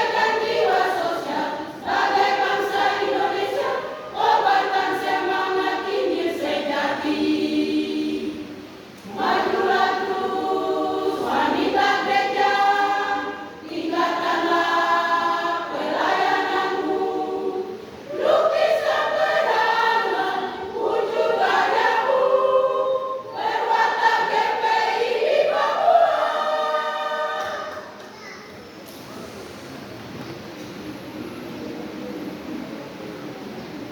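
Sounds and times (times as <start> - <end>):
women's choir singing: 0.0 - 28.0.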